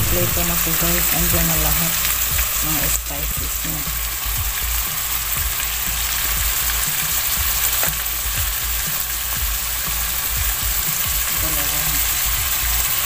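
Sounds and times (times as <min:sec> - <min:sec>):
meat frying in hot oil: 0:00.0 - 0:13.0.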